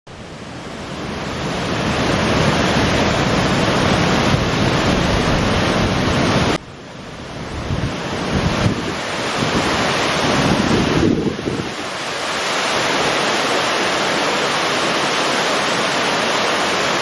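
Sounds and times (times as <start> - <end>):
water rushing over weir: 0.1 - 17.0.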